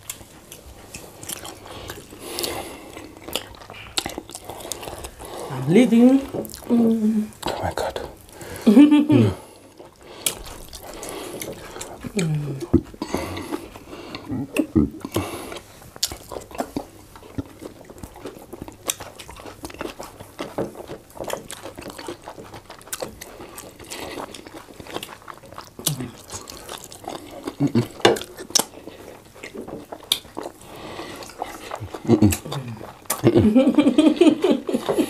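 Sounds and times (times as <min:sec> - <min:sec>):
wet chewing and lip smacking: 0:00.0 - 0:08.4, 0:09.4 - 0:35.0.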